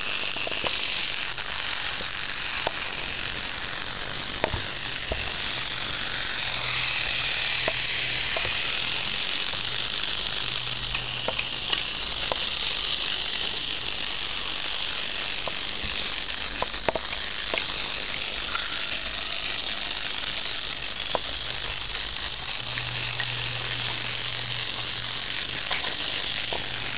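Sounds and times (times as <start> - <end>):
toy train motor whirring: 0.0 - 26.9.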